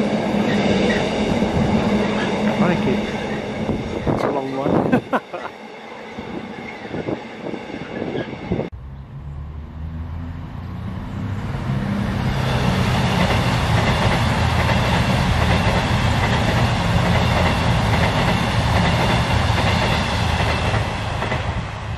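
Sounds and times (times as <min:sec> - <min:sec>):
train engines droning: 0:00.0 - 0:21.9
wheel and rail noise: 0:00.0 - 0:21.9.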